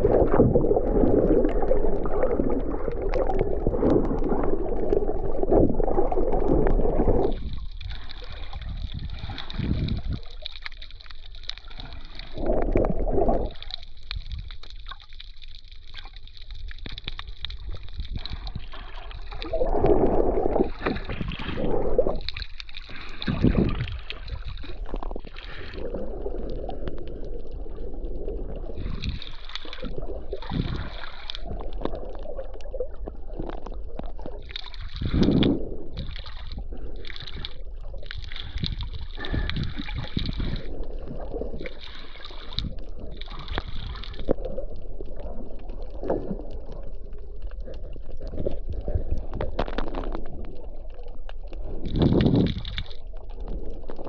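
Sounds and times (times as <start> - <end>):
water sloshing and gurgling: 0.0 - 54.0.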